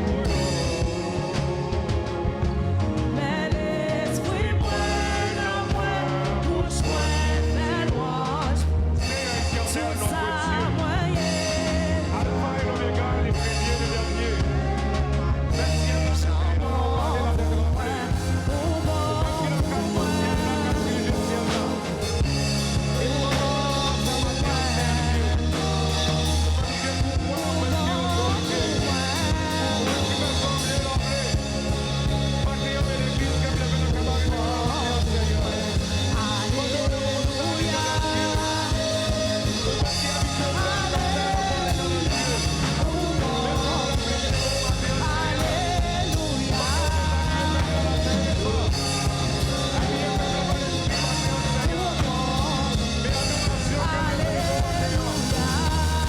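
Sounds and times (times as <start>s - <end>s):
church band playing: 0.0s - 56.0s
people singing: 0.0s - 56.0s.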